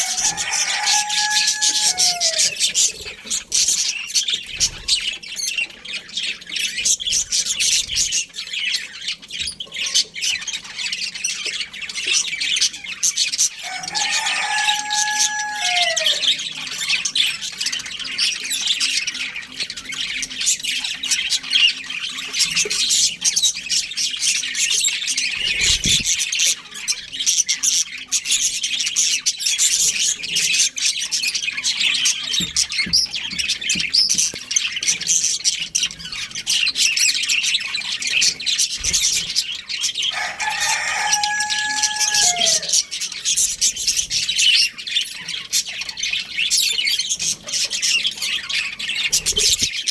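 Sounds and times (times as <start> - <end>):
budgerigars chirping and chattering: 0.0 - 49.9.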